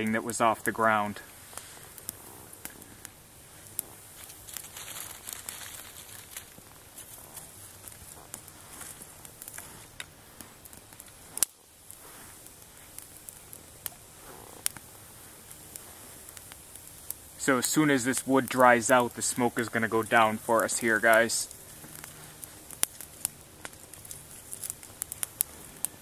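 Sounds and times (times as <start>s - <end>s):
faint hiss: 0.0s - 26.0s
sticks rustling being handled: 0.0s - 26.0s
twig fire crackling and popping: 0.0s - 26.0s.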